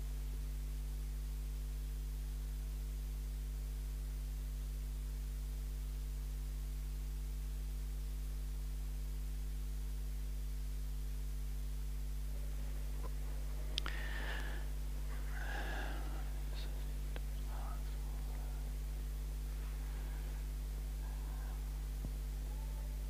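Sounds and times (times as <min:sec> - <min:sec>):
low electrical mains hum: 0:00.0 - 0:23.0.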